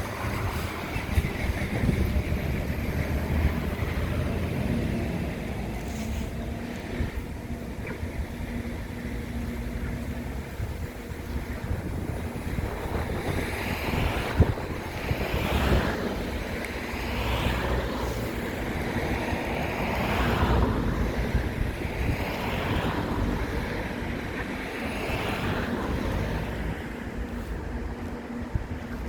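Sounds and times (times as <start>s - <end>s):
wind noise on microphone: 0.0s - 29.0s.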